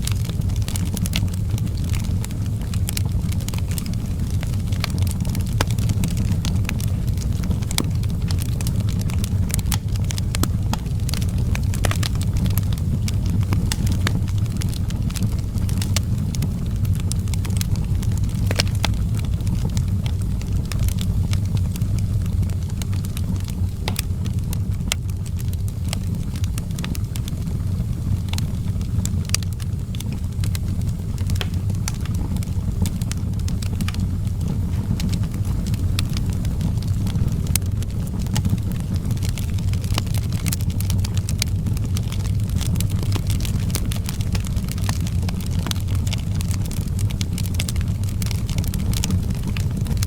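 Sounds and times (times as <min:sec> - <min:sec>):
fire low rumble: 0:00.0 - 0:50.0
wood fire crackling and popping: 0:00.0 - 0:50.0.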